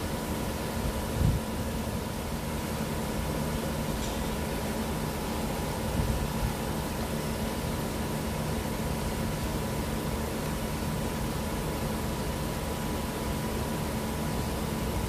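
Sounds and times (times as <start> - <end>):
workshop machine hum: 0.0 - 15.0.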